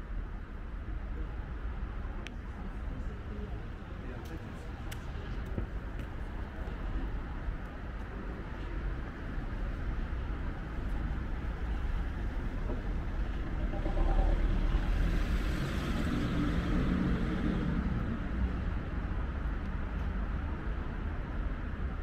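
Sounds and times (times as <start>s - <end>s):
city street ambience: 0.0s - 22.0s.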